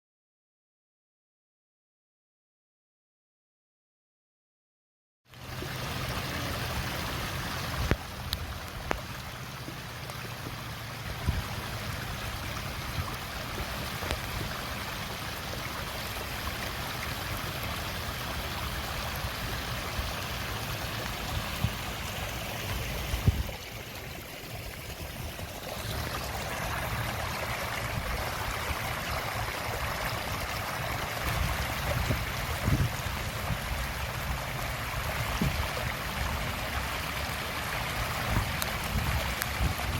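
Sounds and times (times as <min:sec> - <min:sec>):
rainwater runoff rushing: 0:05.3 - 0:39.9.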